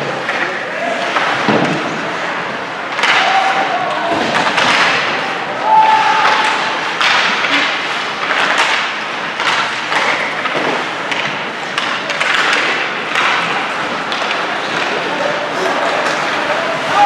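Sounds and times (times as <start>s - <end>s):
hockey sticks and puck knocking: 0.0s - 5.2s, 6.2s - 17.0s.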